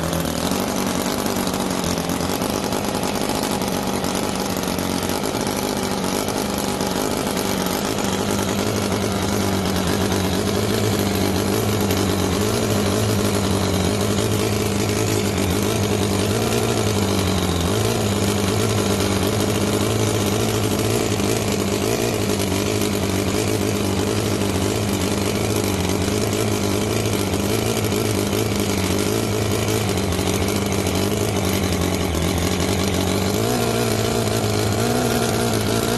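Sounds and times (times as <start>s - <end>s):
model engine running fast: 0.0s - 35.9s.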